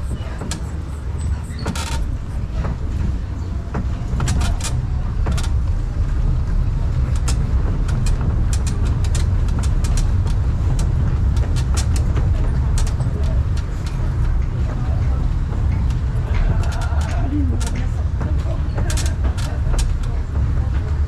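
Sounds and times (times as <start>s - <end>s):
carriages clicking and rattling: 0.0s - 21.0s
road train rumbling on cobblestones: 0.0s - 21.0s.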